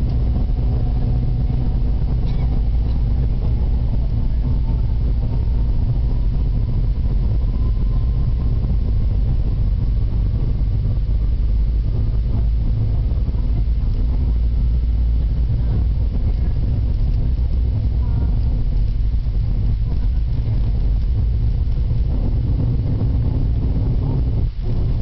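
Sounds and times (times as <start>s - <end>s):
jet engines roaring: 0.0s - 25.0s
runway rumble: 0.0s - 25.0s.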